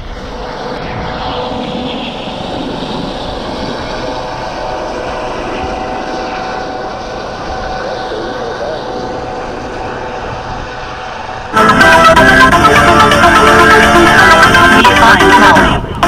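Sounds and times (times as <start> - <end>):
propeller aircraft droning overhead: 0.0 - 16.0.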